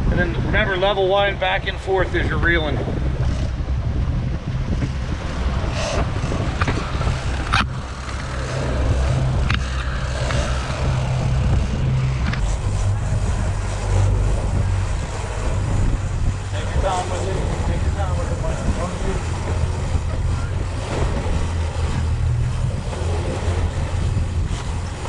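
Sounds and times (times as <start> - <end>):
boat engines humming: 0.0 - 25.0.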